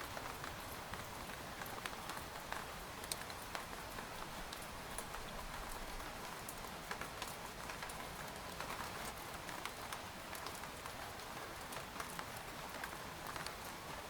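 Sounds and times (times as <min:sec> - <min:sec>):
rain on a tent: 0:00.0 - 0:14.0.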